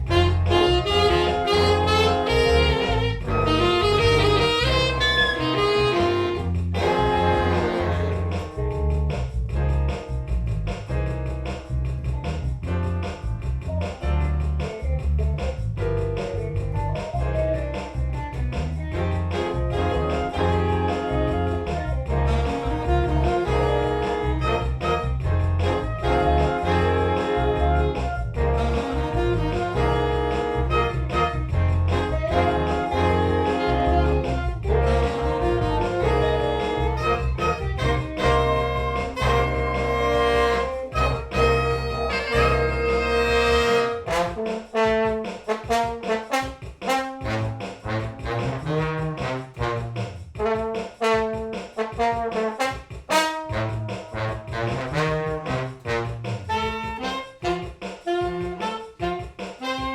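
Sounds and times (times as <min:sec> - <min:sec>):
big band jazz: 0:00.0 - 0:59.9.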